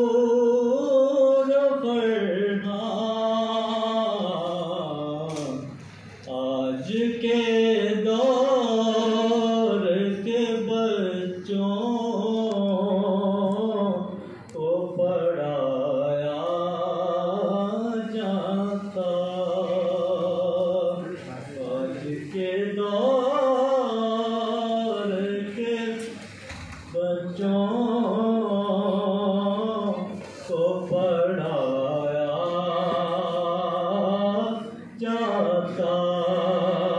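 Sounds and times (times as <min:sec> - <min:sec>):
man singing unaccompanied: 0:00.0 - 0:26.2, 0:26.9 - 0:36.9.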